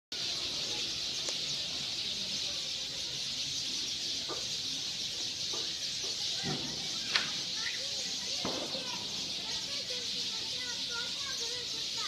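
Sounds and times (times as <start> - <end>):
birds chirping chorus: 0.1 - 12.0.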